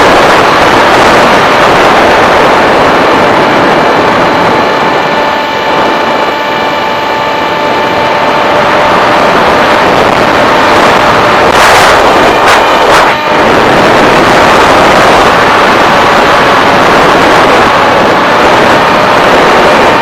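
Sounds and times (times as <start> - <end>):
model aircraft motor whine: 0.0 - 20.0
wind noise: 0.0 - 20.0.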